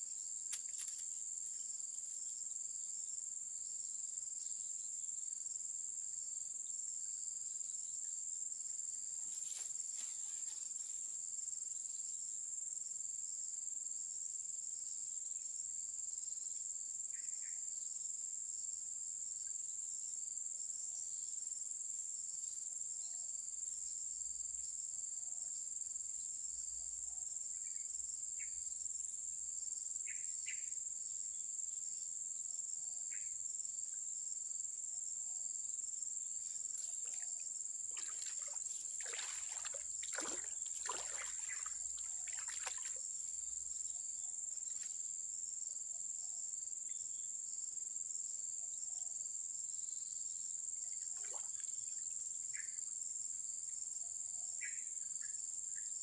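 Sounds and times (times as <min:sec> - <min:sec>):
shrill insect chorus: 0:00.0 - 0:13.2, 0:21.1 - 0:56.0.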